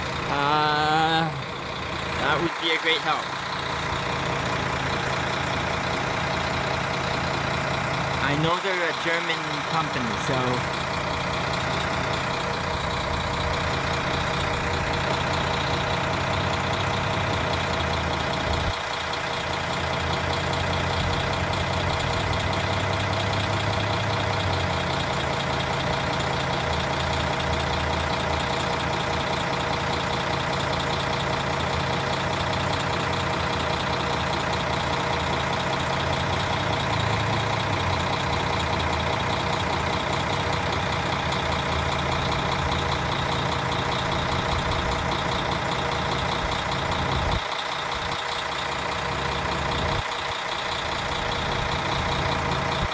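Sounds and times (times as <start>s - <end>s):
diesel railcar engines idling: 0.0s - 52.9s.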